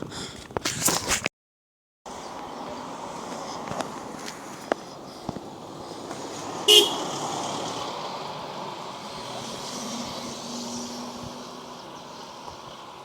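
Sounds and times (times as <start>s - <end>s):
vehicle passing on road: 2.1s - 13.0s.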